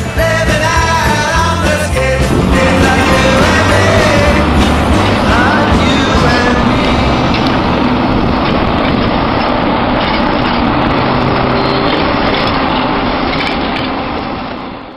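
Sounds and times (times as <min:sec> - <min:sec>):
train rumbling on tracks: 0:00.0 - 0:14.9.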